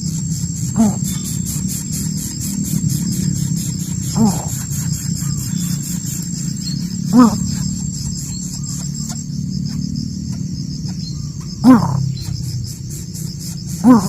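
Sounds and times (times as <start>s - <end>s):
crickets chirring: 0.0s - 14.0s
low hum: 0.0s - 14.0s.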